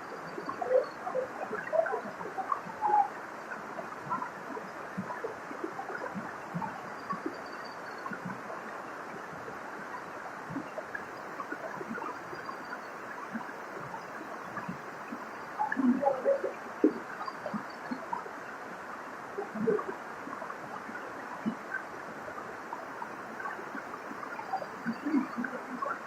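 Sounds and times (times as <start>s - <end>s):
waterfall splashing and gurgling: 0.1s - 26.0s.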